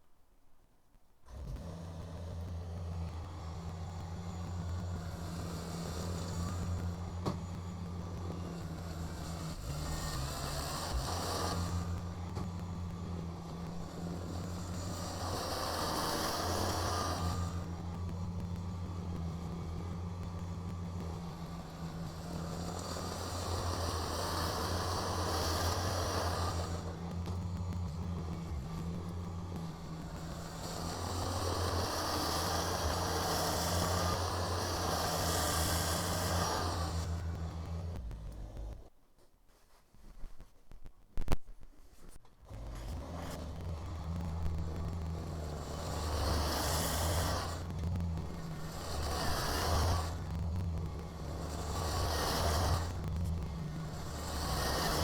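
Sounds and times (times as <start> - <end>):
tractor diesel engine running: 1.3 - 38.9, 42.5 - 55.0.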